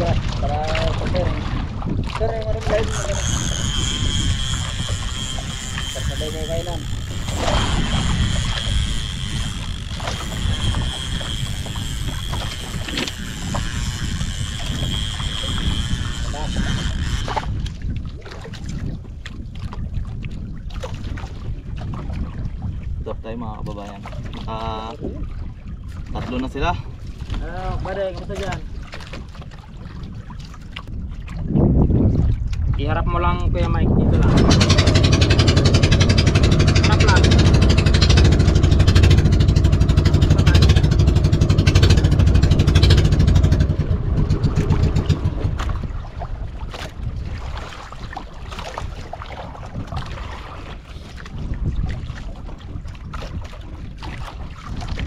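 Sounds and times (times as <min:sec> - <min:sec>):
water sloshing: 0:00.0 - 0:23.0, 0:23.6 - 0:32.8, 0:34.3 - 0:55.0
motorboat engine running: 0:00.0 - 0:55.0
wind buffeting microphone: 0:00.0 - 0:55.0.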